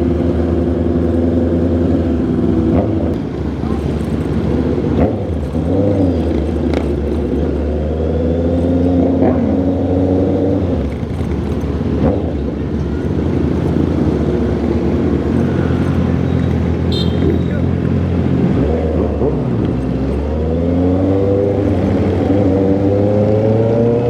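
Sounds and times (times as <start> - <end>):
motorcycle engine and exhaust: 0.0 - 24.0.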